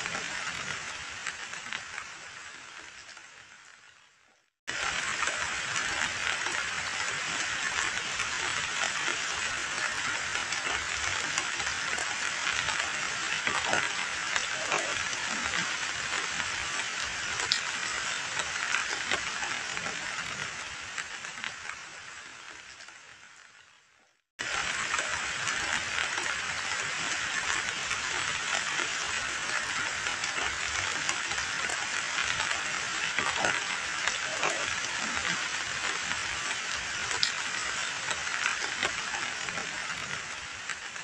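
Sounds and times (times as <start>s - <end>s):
heavy rain splashing on water: 0.0s - 4.0s, 4.7s - 23.6s, 24.4s - 41.0s.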